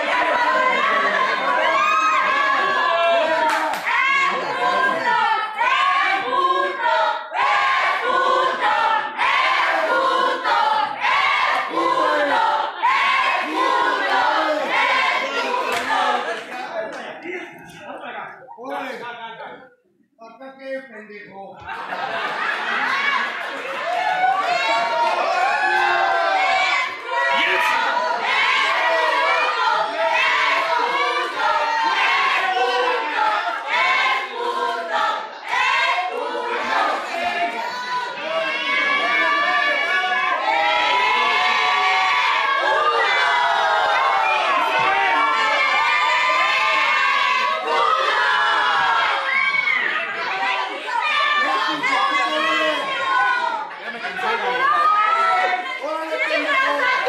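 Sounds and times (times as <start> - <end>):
crowd yelling: 0.0 - 16.8, 21.7 - 57.0.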